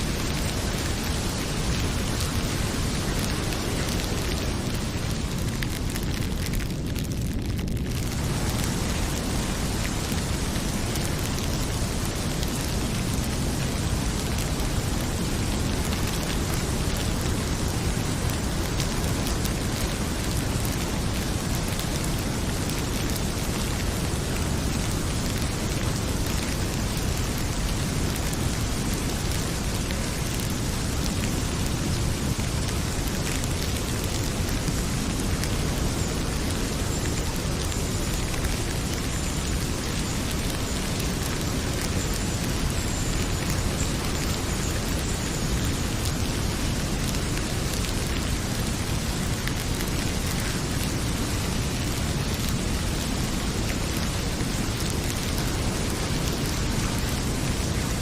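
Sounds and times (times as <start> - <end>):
heavy rain pouring: 0.0 - 58.0
wood fire crackling: 0.0 - 58.0.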